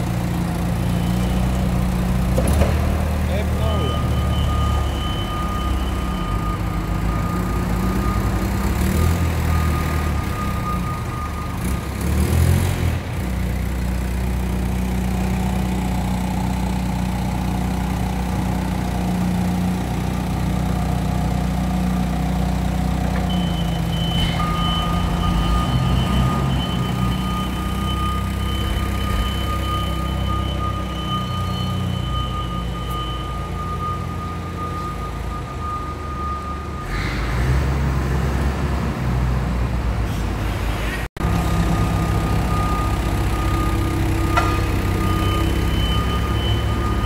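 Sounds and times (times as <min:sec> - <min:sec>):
vehicle engine rumbling: 0:00.0 - 0:47.0.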